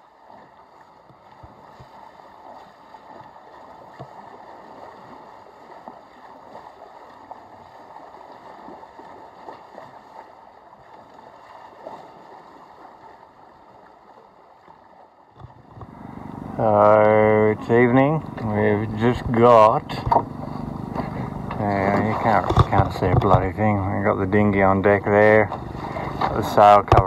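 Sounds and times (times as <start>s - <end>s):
water splashing against boat hull: 0.0s - 27.0s.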